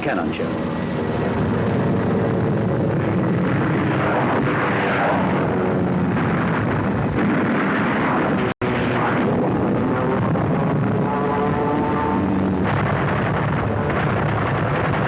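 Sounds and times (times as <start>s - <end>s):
aircraft engines roaring: 0.0s - 15.0s.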